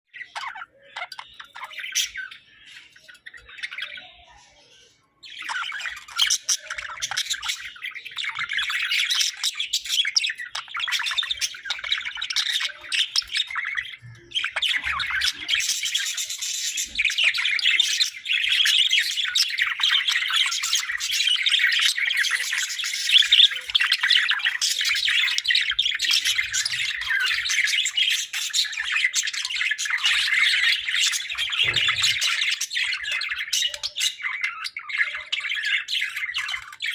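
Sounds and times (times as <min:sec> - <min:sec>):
budgerigars chattering and chirping: 0:00.1 - 0:36.9.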